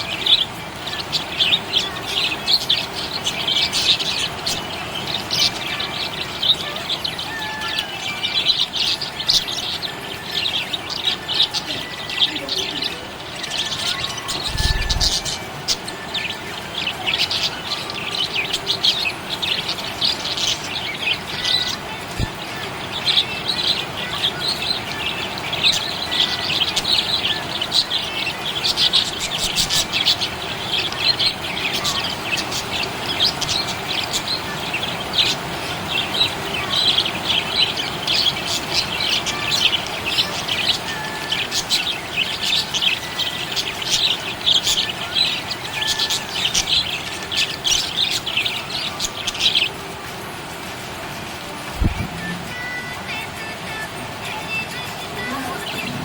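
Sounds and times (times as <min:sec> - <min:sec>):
budgerigars chirping: 0:00.0 - 0:50.0.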